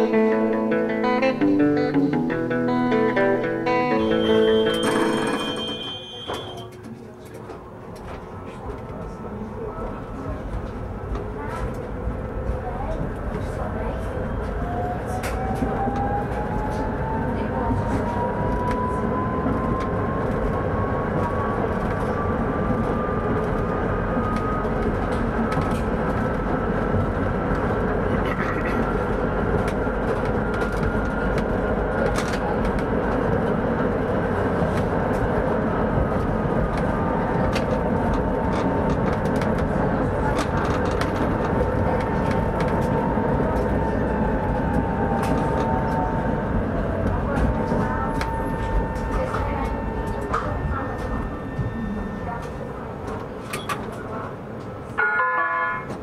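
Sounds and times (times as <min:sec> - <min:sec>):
tram motor whine: 0:00.0 - 0:56.0
tram wheels rumbling on track: 0:00.0 - 0:56.0.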